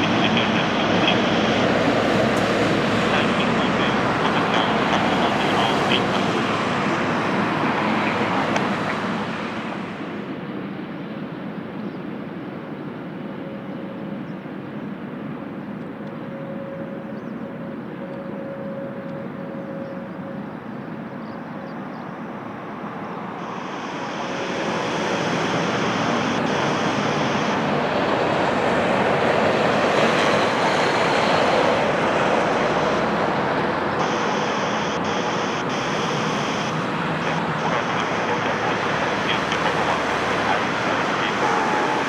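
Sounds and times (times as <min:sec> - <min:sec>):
jet airliner engine rush: 0:00.0 - 0:16.3, 0:20.4 - 0:42.0.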